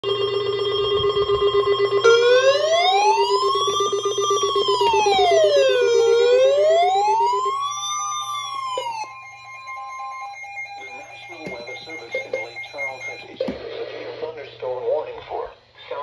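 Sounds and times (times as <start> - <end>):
rising and falling siren: 0.0 - 13.3
steady alert tone: 0.0 - 13.6.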